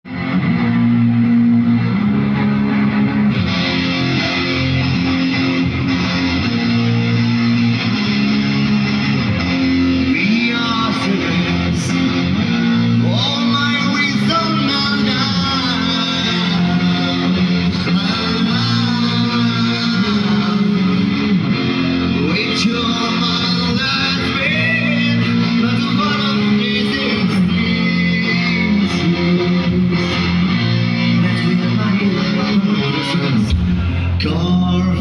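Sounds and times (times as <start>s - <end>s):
bass guitar: 0.0s - 35.0s
electric guitar: 0.1s - 35.0s.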